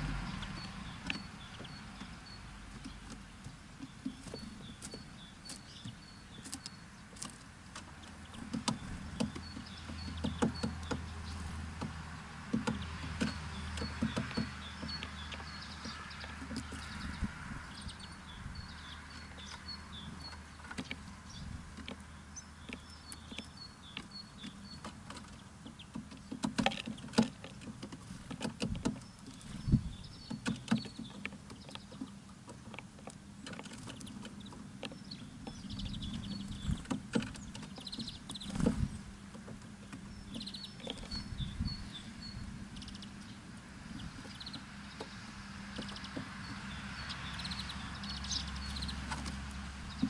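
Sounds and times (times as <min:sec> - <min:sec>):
birds pecking taps: 0:00.0 - 0:50.0
small birds chirping: 0:00.0 - 0:50.0.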